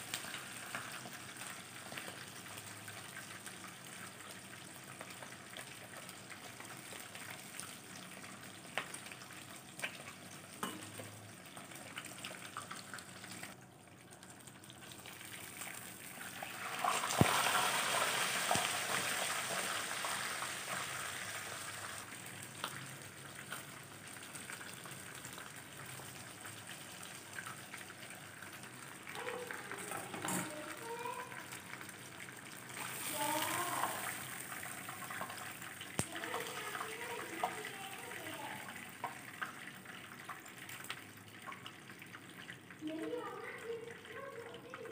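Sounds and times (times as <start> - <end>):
fish sizzling in oil: 0.0 - 44.9.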